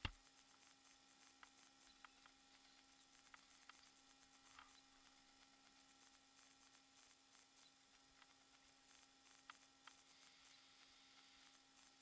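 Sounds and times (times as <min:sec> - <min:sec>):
faint steady hum and hiss: 0:00.0 - 0:12.0
faint ticks: 0:00.0 - 0:12.0.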